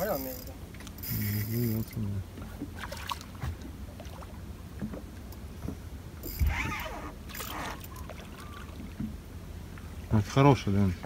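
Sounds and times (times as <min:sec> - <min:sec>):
water sloshing against boat hull: 0:00.0 - 0:11.0.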